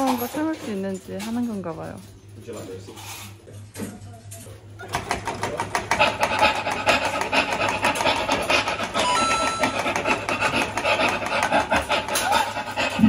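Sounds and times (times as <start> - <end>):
mechanical dog machine rasping: 0.0 - 13.0.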